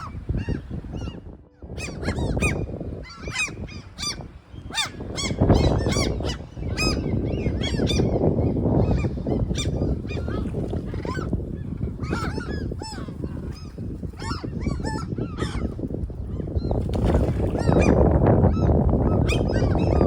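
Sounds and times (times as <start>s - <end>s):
wind buffeting microphone: 0.0s - 20.0s
birds calling: 1.8s - 20.0s.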